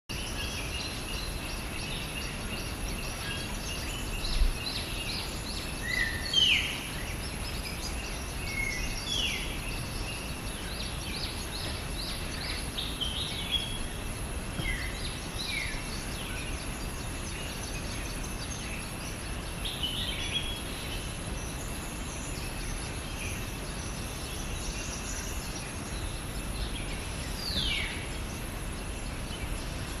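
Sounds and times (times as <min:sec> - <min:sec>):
birds calling and chirping: 0:00.1 - 0:30.0
steady background noise: 0:00.1 - 0:30.0.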